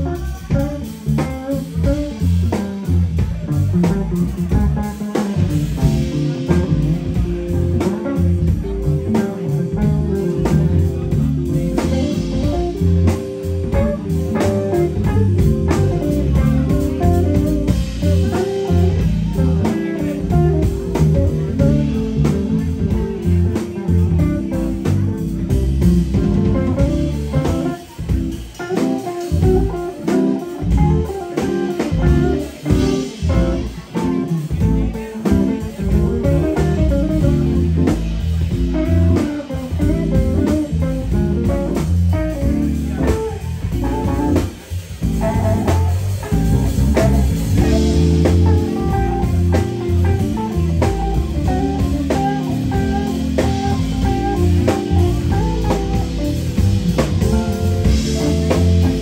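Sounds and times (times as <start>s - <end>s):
drum kit: 0.0s - 59.0s
electric bass: 0.0s - 59.0s
electric guitar lead line: 0.0s - 59.0s.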